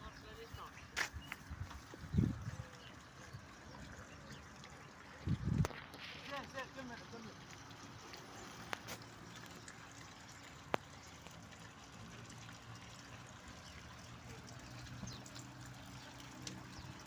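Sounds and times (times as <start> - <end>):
trickling water: 0.0 - 17.0.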